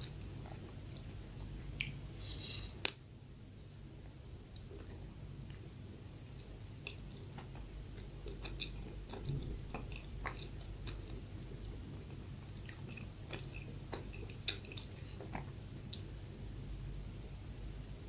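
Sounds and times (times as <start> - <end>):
person chewing soft bread: 0.0 - 3.0, 3.6 - 17.4.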